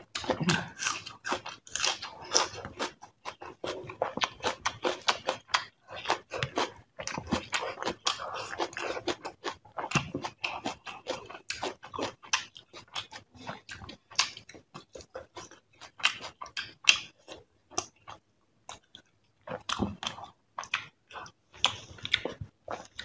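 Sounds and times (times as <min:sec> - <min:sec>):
wet chewing and lip-smacking: 0:00.1 - 0:23.0.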